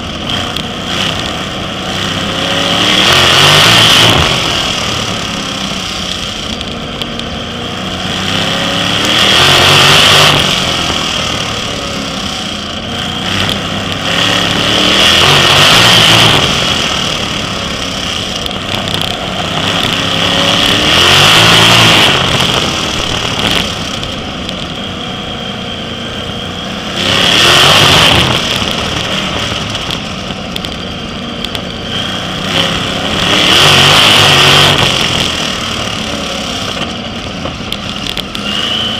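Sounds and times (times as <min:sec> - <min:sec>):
racing car engines: 0:00.0 - 0:38.9.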